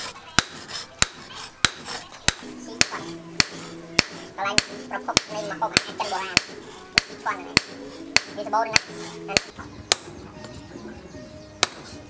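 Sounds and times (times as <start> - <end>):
hammer striking hot steel on anvil: 0.0 - 10.1, 11.6 - 12.0.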